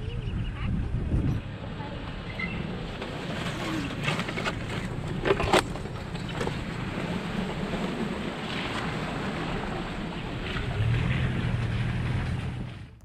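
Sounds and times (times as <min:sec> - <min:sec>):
wind buffeting microphone: 0:00.0 - 0:12.7
truck engine and tyre noise: 0:00.0 - 0:13.0.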